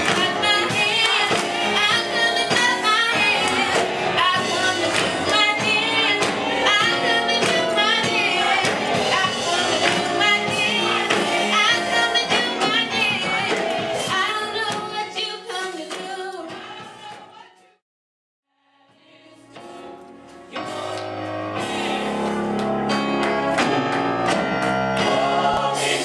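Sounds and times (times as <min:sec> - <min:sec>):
percussion beat: 0:00.0 - 0:17.6, 0:20.4 - 0:26.0
worship team singing with band: 0:00.0 - 0:17.7, 0:18.8 - 0:23.0, 0:23.6 - 0:26.0.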